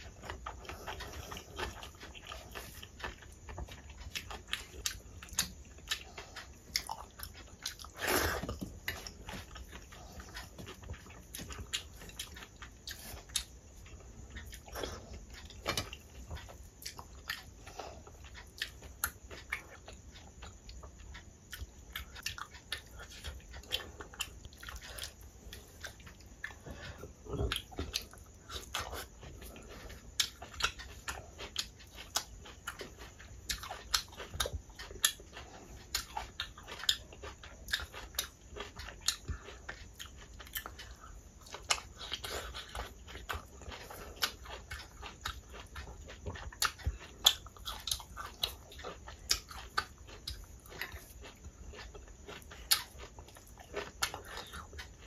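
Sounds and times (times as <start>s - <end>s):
wet chewing and lip-smacking: 0.0s - 55.0s.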